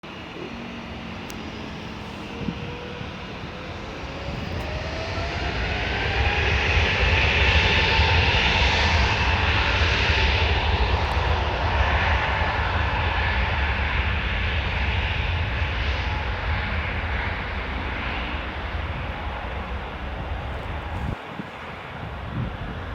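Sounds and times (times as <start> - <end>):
jet engines spooling up: 0.0 - 22.9.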